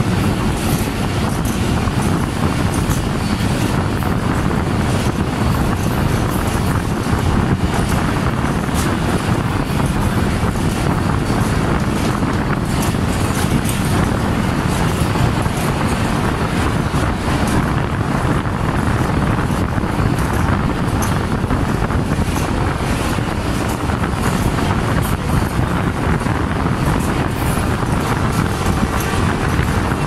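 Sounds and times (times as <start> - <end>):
train wheels rumbling on rail: 0.0 - 30.0
wind buffeting microphone: 0.0 - 30.0.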